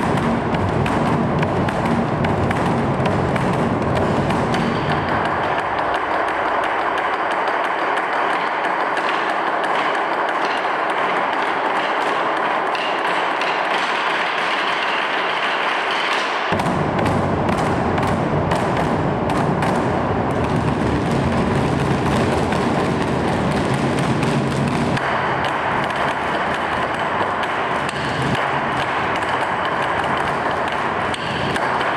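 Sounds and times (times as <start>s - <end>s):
barrel drums rolling rhythm: 0.0s - 31.9s.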